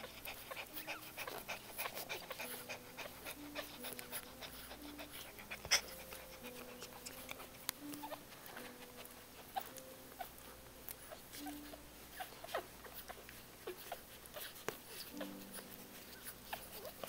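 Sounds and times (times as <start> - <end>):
puppies squeaking and grunting: 0.0 - 17.0
puppies suckling clicks: 0.0 - 17.0.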